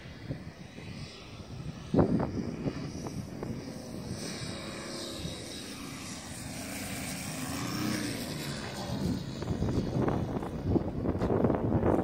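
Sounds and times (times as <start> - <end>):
model airplane engine drone: 0.0 - 12.0
wind noise: 0.0 - 12.0.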